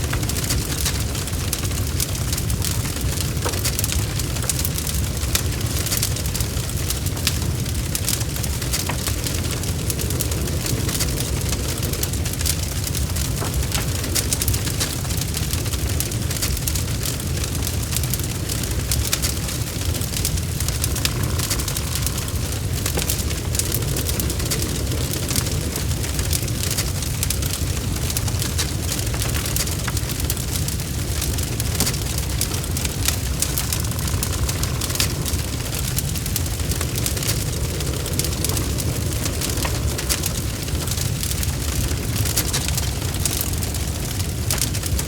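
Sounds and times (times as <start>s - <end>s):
fire crackles and pops: 0.0s - 45.0s
wood fire low rumble: 0.0s - 45.0s.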